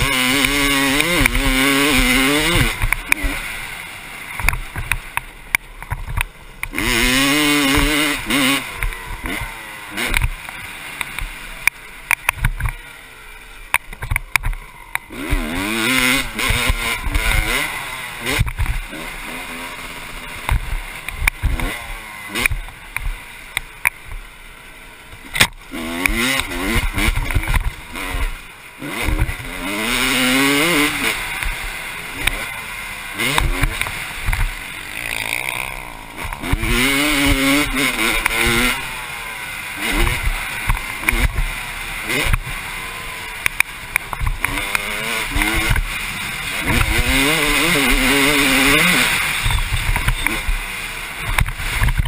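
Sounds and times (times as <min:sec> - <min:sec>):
motorbike engine revving: 0:00.0 - 0:52.0.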